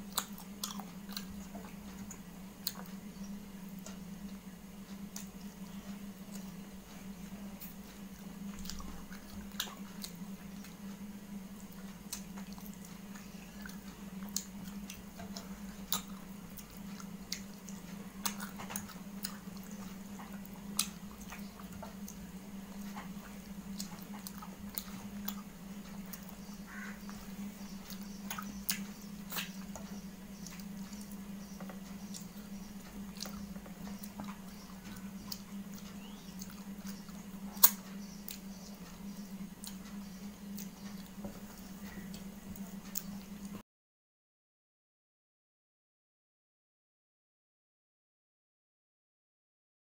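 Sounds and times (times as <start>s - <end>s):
person chewing food: 0.0s - 3.1s, 3.7s - 43.6s
steady low hum: 0.0s - 43.6s.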